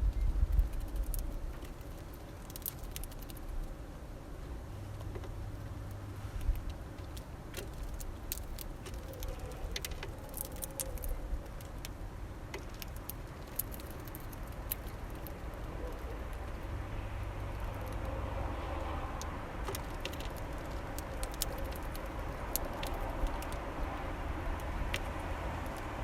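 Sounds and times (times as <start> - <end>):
distant traffic rumble: 0.0 - 26.0.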